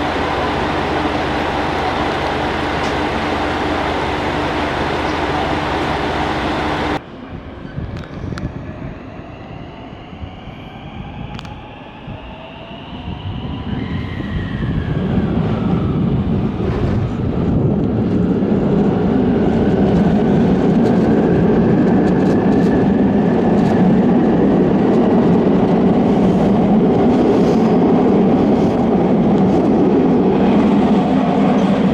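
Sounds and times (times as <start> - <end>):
train rumble: 0.0 - 31.9
train whine gliding in pitch: 0.0 - 31.9.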